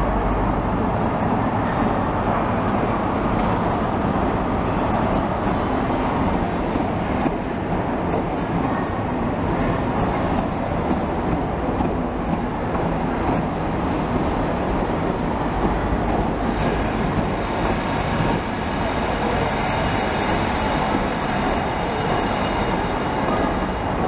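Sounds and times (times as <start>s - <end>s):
train engine and wheels rumbling: 0.0s - 24.0s.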